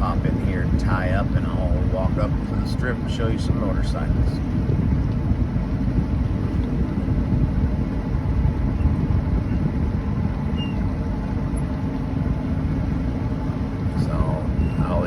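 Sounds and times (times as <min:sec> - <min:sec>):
boat engine low rumble: 0:00.0 - 0:15.0.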